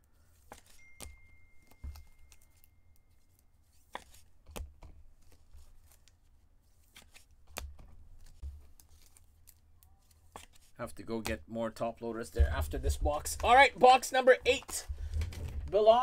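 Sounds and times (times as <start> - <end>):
trading cards handled on table: 0.1 - 11.4, 12.3 - 16.0.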